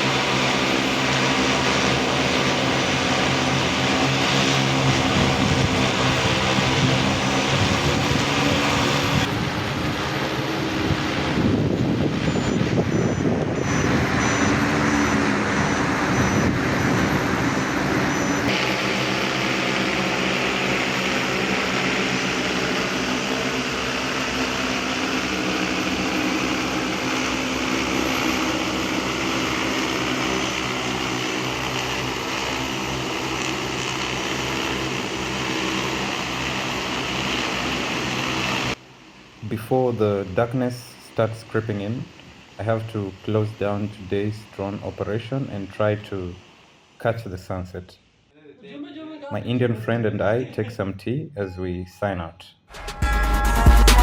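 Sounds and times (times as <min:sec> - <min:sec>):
drone propellers whirring: 0:00.0 - 0:47.8.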